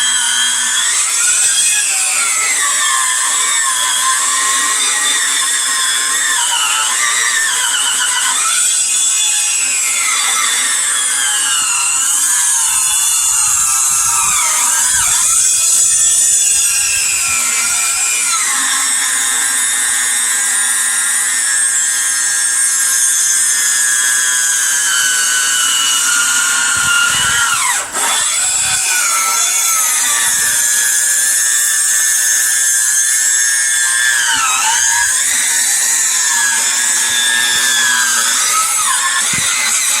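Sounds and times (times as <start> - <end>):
electric chainsaw cutting log: 0.0 - 40.0.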